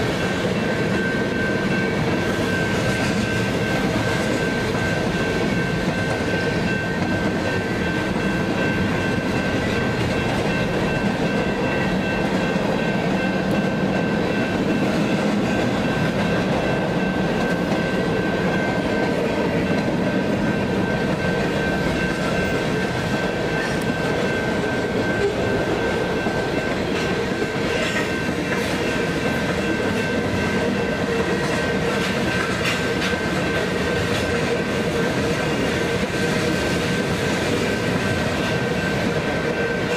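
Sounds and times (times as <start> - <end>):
high-pitched ringing: 0.0 - 32.7
train cars rolling on rails: 0.0 - 39.9.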